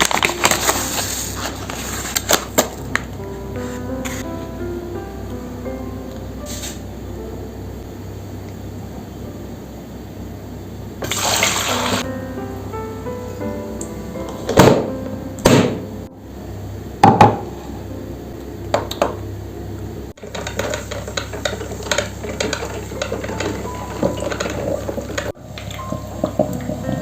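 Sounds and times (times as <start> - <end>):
soft background music: 0.0 - 10.3, 11.2 - 18.8, 21.9 - 27.0.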